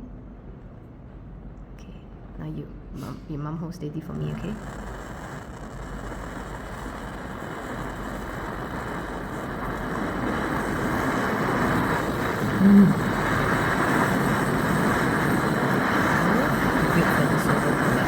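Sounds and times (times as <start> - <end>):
gas torch flame hissing: 3.3 - 18.0.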